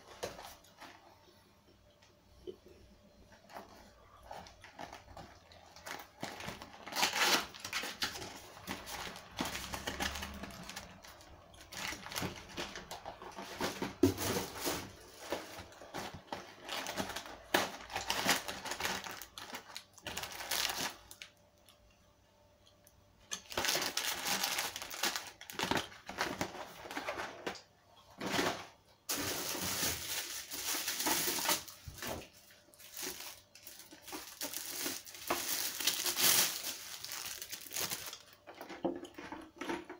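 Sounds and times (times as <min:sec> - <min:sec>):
packaging crinkling: 0:03.5 - 0:21.4, 0:23.3 - 0:27.6, 0:28.2 - 0:39.3.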